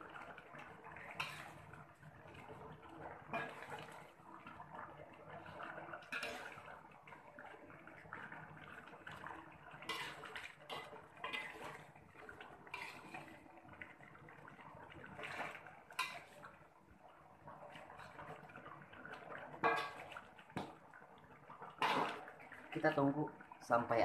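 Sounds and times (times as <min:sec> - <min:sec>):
sauce bubbling and popping: 0:00.0 - 0:23.8.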